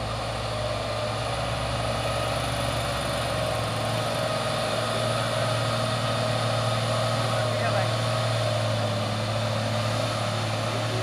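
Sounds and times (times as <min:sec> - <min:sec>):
truck diesel engine humming: 0:00.0 - 0:11.0.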